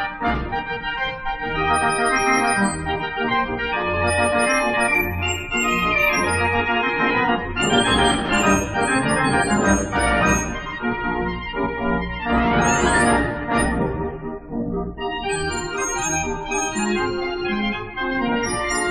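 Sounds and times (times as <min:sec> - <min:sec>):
barrel organ playing a tune: 0:00.0 - 0:18.9.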